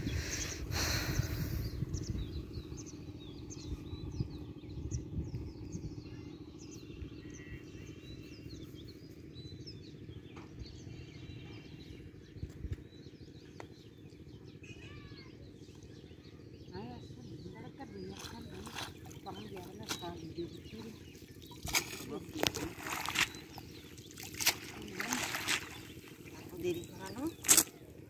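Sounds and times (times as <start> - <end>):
low background hum: 0.0 - 28.0
small birds chirping: 0.0 - 28.0.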